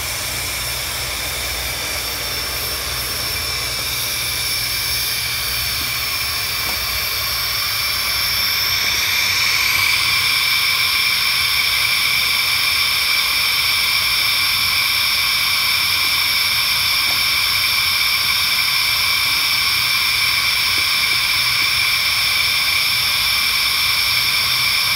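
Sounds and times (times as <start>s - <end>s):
blown air hissing: 0.0s - 24.9s.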